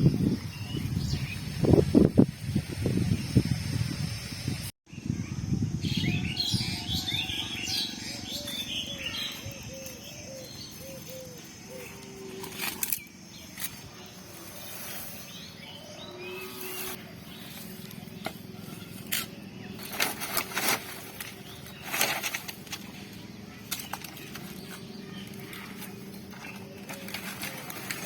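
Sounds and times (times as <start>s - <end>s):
birds chirping faintly: 4.9s - 28.0s.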